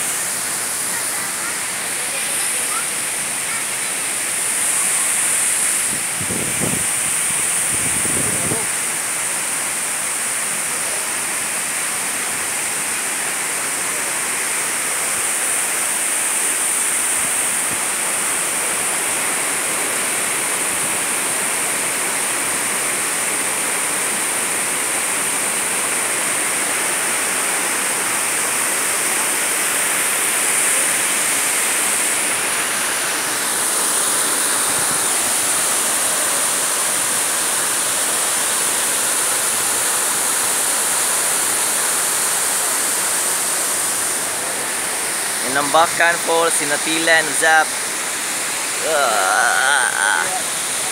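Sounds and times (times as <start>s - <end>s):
waterfall rushing over boulders: 0.0s - 50.9s.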